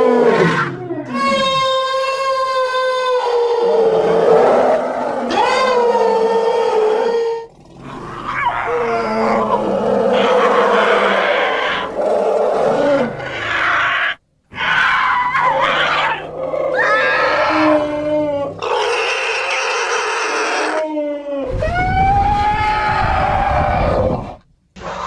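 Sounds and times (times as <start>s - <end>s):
elephant trumpeting and roaring: 3.1s - 25.0s.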